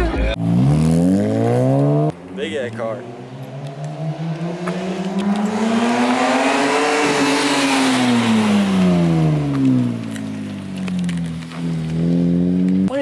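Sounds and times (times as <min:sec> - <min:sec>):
car engine revving: 0:00.0 - 0:13.0
road and wind noise: 0:00.0 - 0:13.0.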